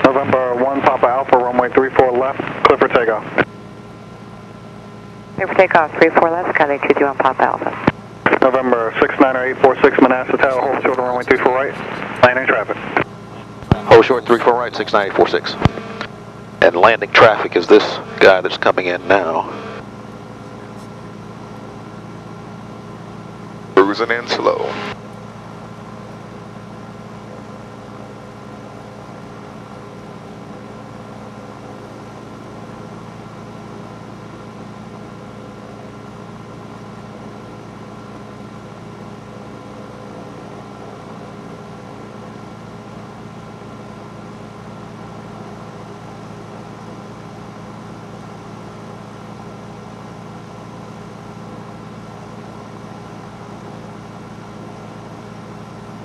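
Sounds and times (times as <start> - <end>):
twin piston engines humming: 0.0 - 56.0.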